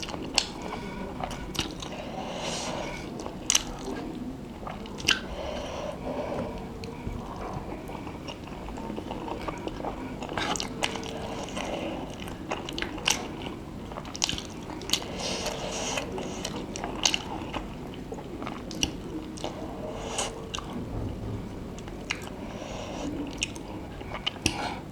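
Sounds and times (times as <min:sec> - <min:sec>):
wet chewing of noodles: 0:00.0 - 0:21.2, 0:21.8 - 0:24.9.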